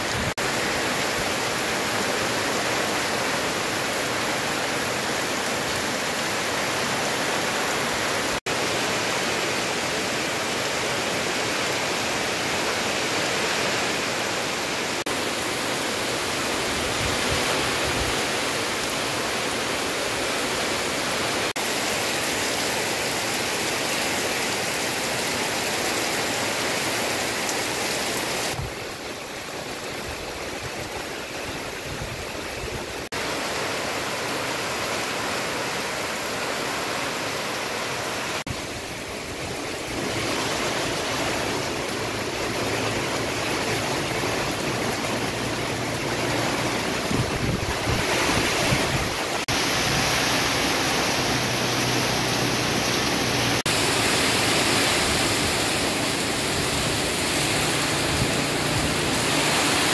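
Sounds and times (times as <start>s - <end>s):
heavy rain on thatched roofs: 0.0s - 59.9s.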